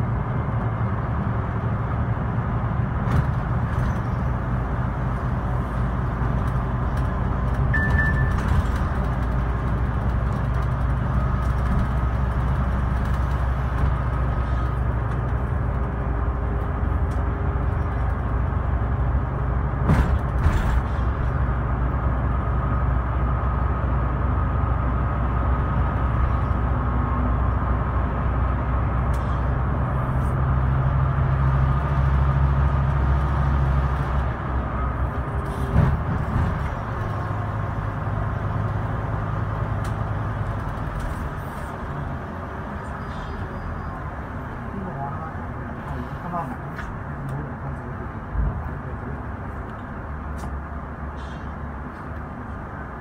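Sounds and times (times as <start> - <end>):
bus diesel engine running: 0.0 - 53.0
road noise: 0.0 - 53.0.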